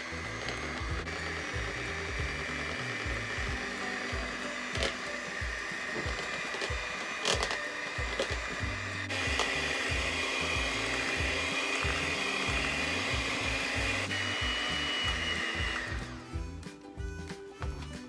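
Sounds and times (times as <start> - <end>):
electric hand mixer whipping: 0.0 - 16.5.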